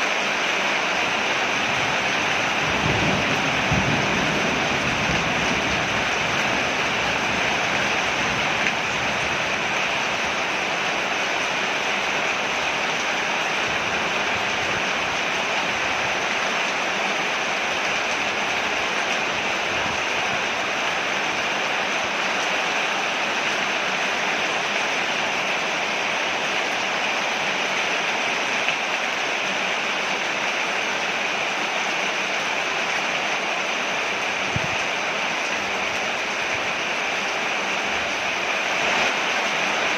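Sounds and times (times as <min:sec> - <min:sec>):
heavy rain on a porch: 0:00.0 - 0:39.9.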